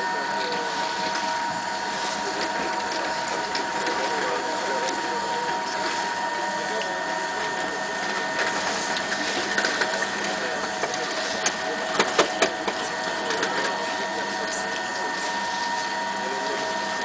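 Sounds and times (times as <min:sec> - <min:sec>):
floor grinder grinding stone: 0:00.0 - 0:17.0.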